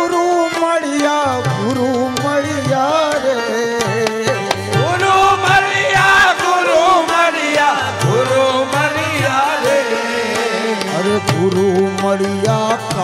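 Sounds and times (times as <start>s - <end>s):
instrumental accompaniment: 0.0s - 13.0s
person singing long gliding notes: 0.0s - 13.0s.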